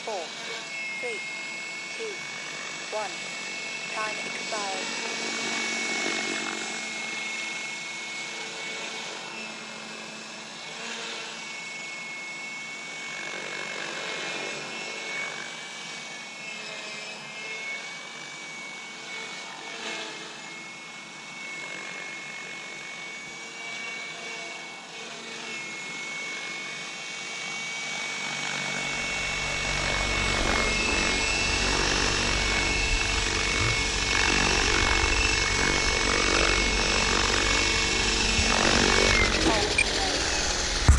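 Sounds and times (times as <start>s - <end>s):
rc helicopter high whine: 0.0s - 40.9s.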